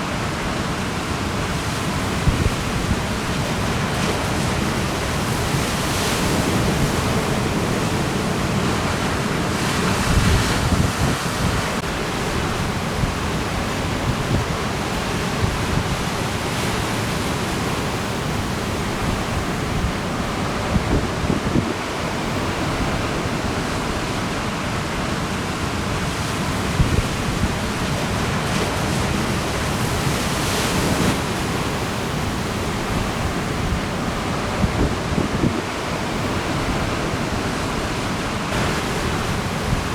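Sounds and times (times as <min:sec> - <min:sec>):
ocean surf breaking: 0:00.0 - 0:39.9
wind buffeting microphone: 0:01.5 - 0:24.3, 0:24.9 - 0:39.9.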